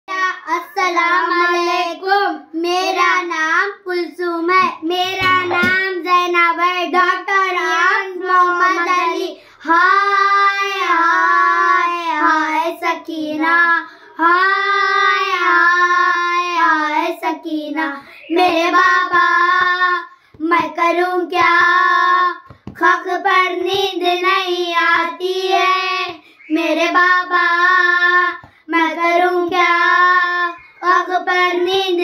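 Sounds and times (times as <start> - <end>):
girls singing unaccompanied: 0.1 - 32.0.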